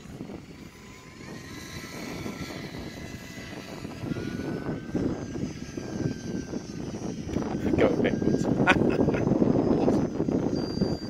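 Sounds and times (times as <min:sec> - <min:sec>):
model plane motor whining: 0:00.0 - 0:11.0
wind buffeting microphone: 0:00.0 - 0:11.0.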